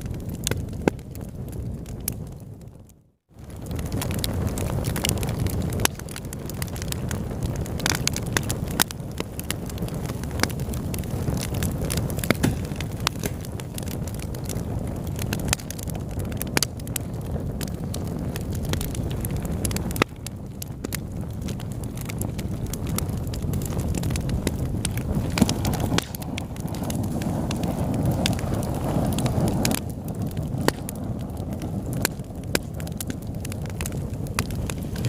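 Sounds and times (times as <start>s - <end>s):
fire crackles and pops: 0.0s - 35.0s
fire rumbling in fireplace: 0.0s - 35.0s.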